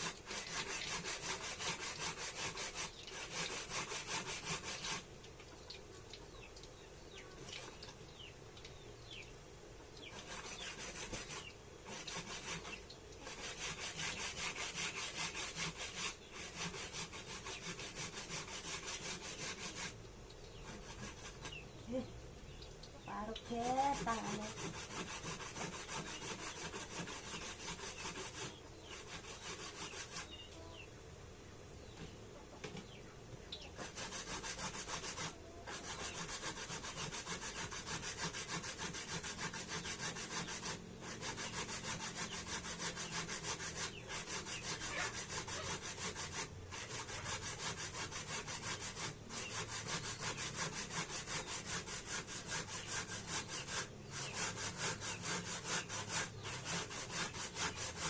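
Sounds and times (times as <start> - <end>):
food scraping on a grater: 0.0 - 5.1, 10.0 - 21.7, 23.2 - 30.4, 33.8 - 58.0.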